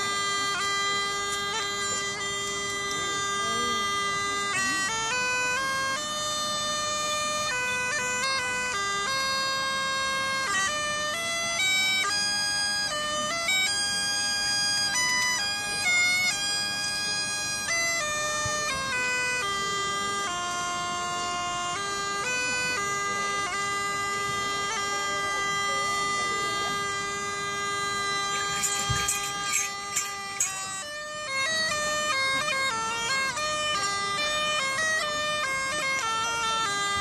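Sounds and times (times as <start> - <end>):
bagpipes playing a tune: 0.0 - 37.0.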